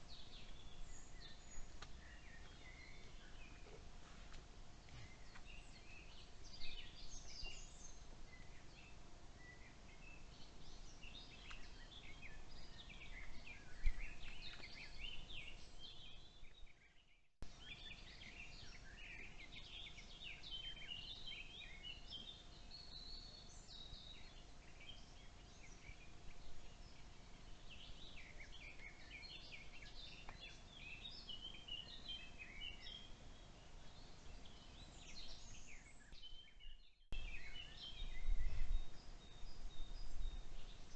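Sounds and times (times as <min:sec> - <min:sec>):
small birds chirping and singing: 0:00.0 - 0:40.9.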